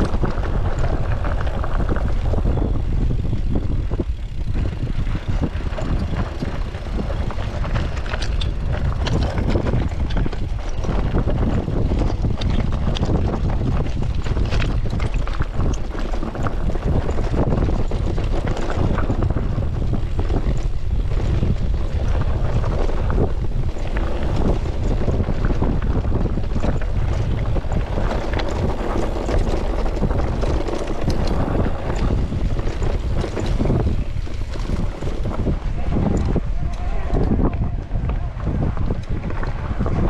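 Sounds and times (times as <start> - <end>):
bike clicks and knocks: 0.0 - 40.0
wind buffeting microphone: 0.0 - 40.0.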